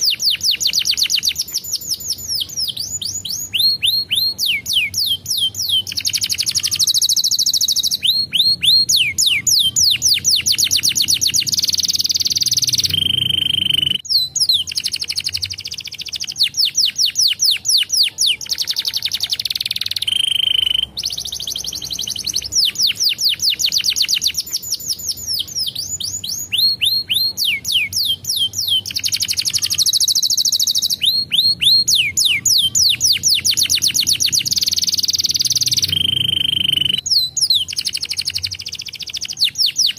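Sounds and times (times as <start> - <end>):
canary singing trills: 0.0 - 39.9
whistled notes: 0.0 - 39.9.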